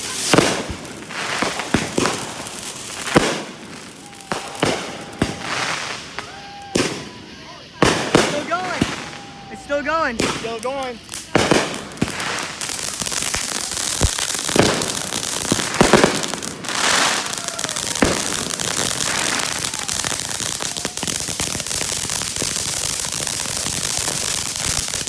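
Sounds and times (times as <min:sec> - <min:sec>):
firework fountain crackling: 0:00.0 - 0:25.0
firework pops: 0:00.0 - 0:25.0.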